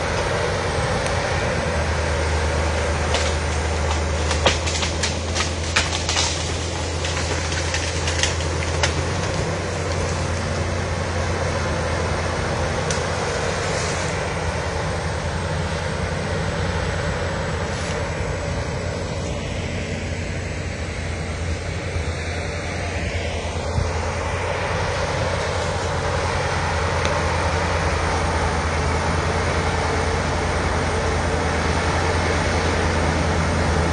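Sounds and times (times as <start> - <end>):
bulldozer diesel engine: 0.0 - 33.9.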